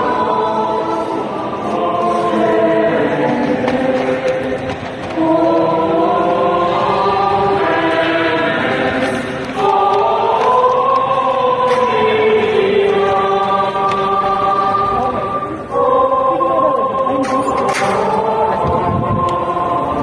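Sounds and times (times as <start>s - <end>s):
choir singing a slow hymn: 0.0s - 20.0s.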